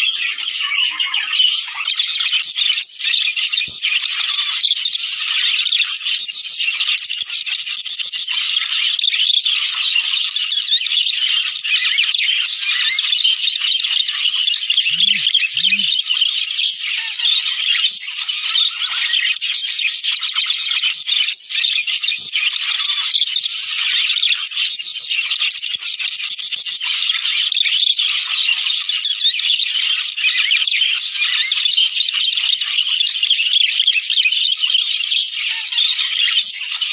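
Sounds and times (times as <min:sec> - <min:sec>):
budgerigar flock chattering: 0:00.0 - 0:36.9.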